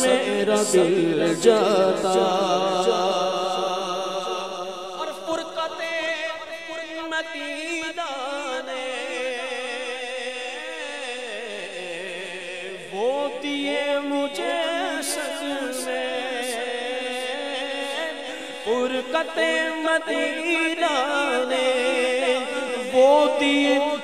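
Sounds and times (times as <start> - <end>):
man singing wordless melody: 0.0 - 24.0.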